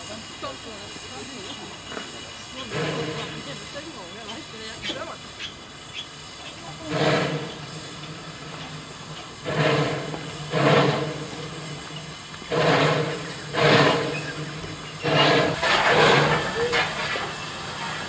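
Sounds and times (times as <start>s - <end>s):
steady steam hiss: 0.0s - 18.0s
steam locomotive chuffing: 0.0s - 18.0s.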